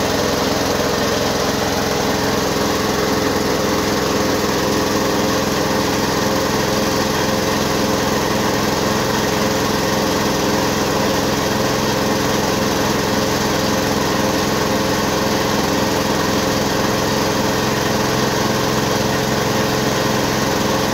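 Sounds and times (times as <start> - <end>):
rice milling machine drone: 0.0 - 20.9.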